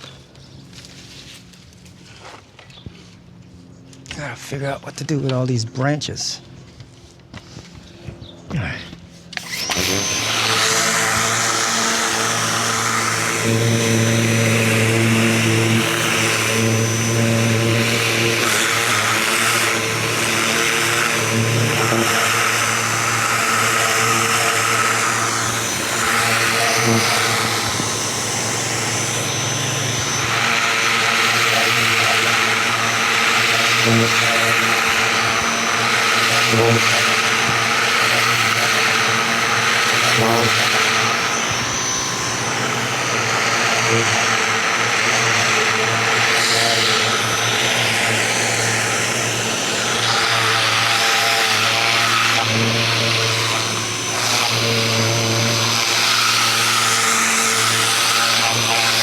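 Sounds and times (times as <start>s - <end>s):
pressure washer motor humming: 6.4s - 59.0s.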